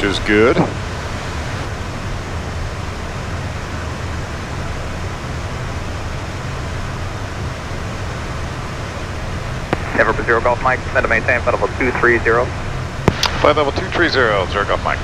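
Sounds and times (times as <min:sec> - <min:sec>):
jet cockpit air rush: 0:00.0 - 0:13.8
low hum: 0:00.0 - 0:14.8.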